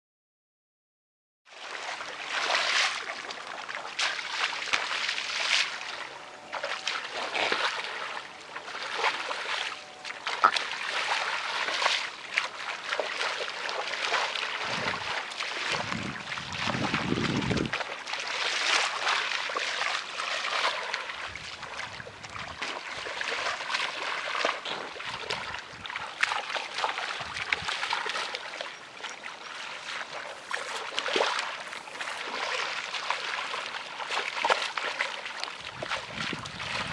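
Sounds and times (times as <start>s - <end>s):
feet wading through muddy water: 1.5s - 36.9s.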